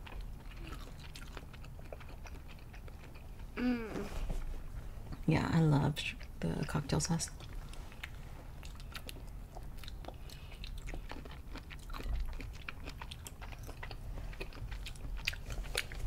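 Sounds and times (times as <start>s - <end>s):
chewing with wet clicks and smacks: 0.0s - 3.6s, 5.0s - 16.0s.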